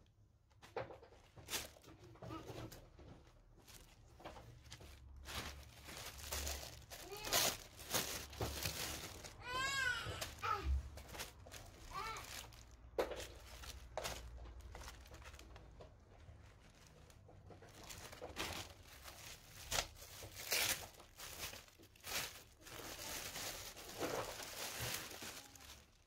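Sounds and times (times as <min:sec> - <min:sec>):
packaging crinkling and rustling: 0:00.6 - 0:26.0.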